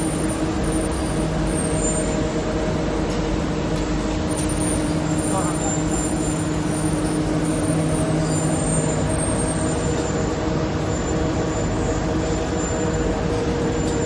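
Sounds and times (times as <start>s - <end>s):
machining machinery running: 0.0s - 14.0s.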